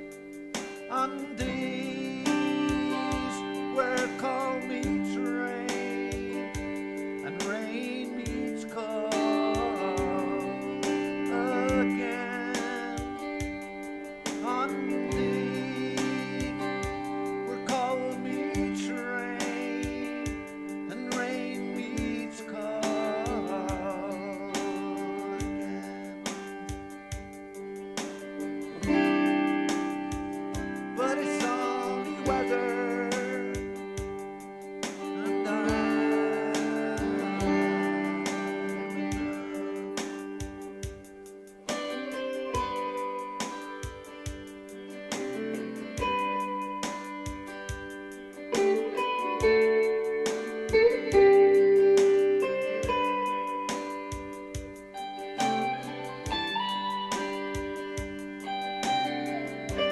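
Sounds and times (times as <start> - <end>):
guitar melody: 0.0 - 59.9
light drum beat: 0.0 - 59.9
slow instrumental music: 0.0 - 59.9.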